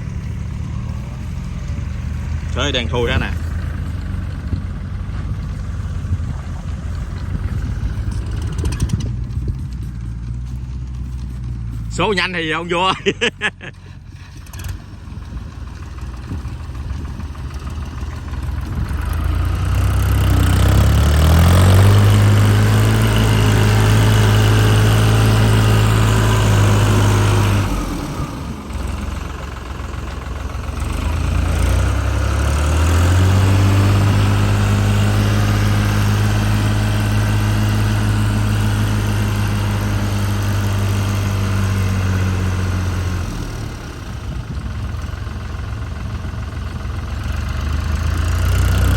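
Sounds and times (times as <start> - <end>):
tractor diesel engine revving: 0.0 - 48.9.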